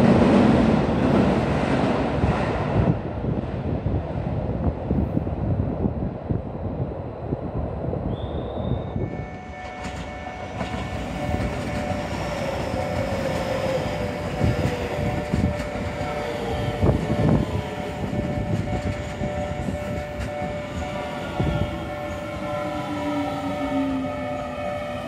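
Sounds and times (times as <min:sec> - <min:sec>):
electric train running past: 0:00.0 - 0:25.0.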